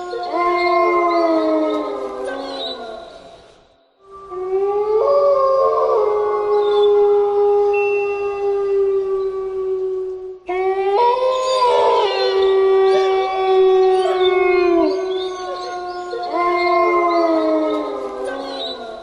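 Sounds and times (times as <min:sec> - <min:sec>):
wolves howling in chorus: 0:00.0 - 0:03.0, 0:04.2 - 0:19.0.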